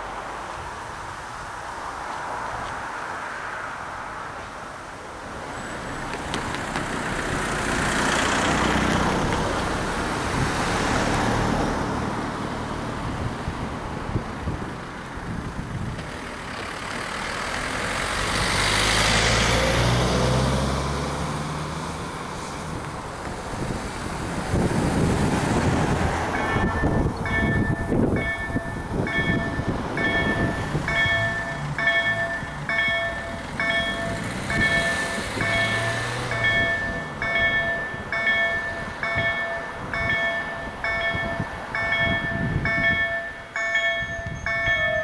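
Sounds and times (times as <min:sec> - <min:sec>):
cars passing: 0:00.0 - 0:45.0.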